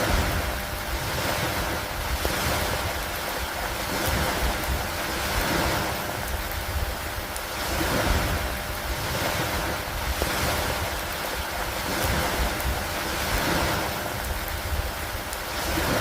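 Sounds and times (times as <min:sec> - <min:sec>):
rain on water and wooden planks: 0:00.0 - 0:16.0.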